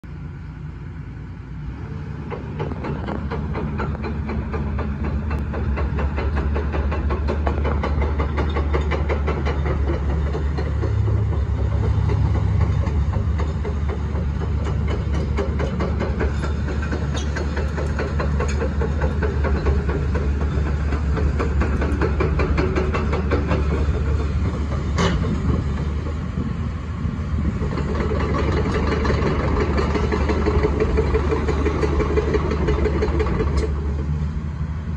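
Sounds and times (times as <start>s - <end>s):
excavator diesel engine idling: 0.1s - 34.9s.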